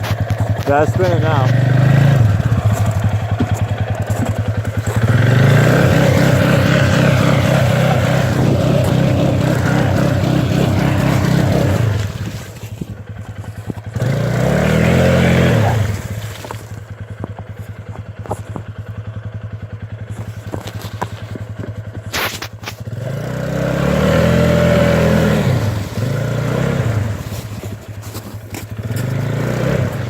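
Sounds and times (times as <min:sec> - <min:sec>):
atv engine revving: 0:00.0 - 0:30.0.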